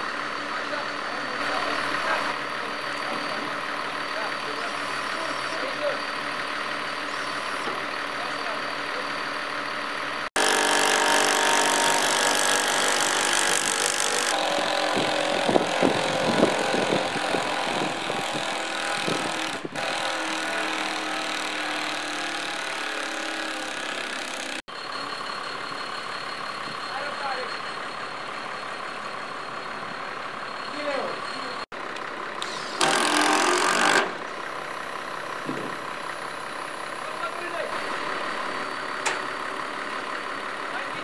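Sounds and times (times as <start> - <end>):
diesel crane engine running: 0.0 - 41.0.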